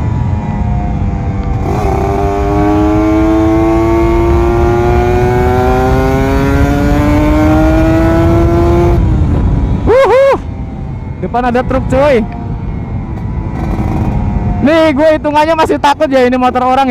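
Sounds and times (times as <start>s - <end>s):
motorcycle engine accelerating: 0.0s - 14.8s.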